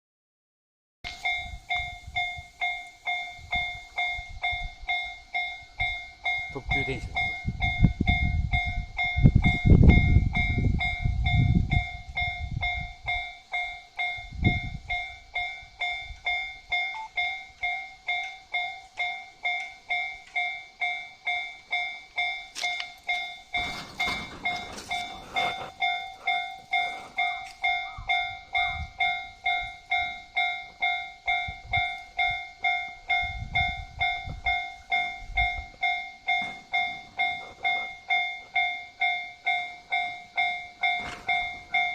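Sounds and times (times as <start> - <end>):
level crossing warning bell: 1.1 - 41.9.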